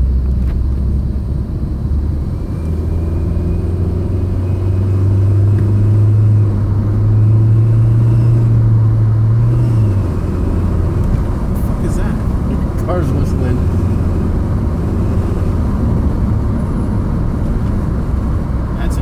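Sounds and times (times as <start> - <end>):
car engine drone: 0.0 - 19.0.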